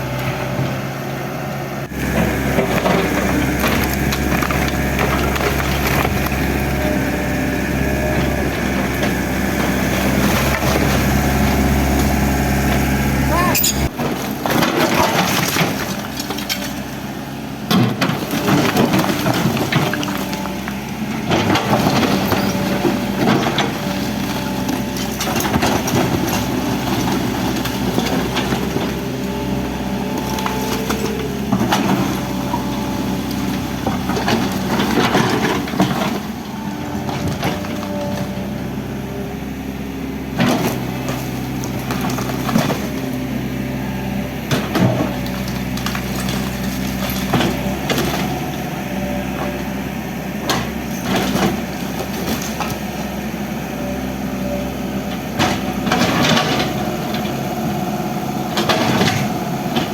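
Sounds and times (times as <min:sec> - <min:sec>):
excavator diesel engine running: 0:00.0 - 0:59.9
wood and debris crunching: 0:01.8 - 0:59.9.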